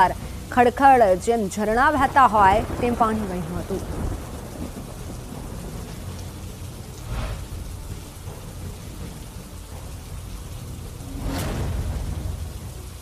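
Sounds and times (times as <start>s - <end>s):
heavy rain falling: 0.0s - 13.0s
low rumble of thunder: 1.6s - 13.0s.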